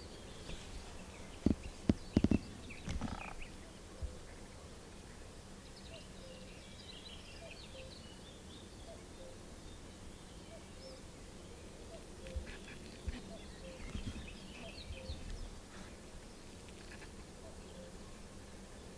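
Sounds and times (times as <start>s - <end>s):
distant birds chirping: 0.0s - 18.1s.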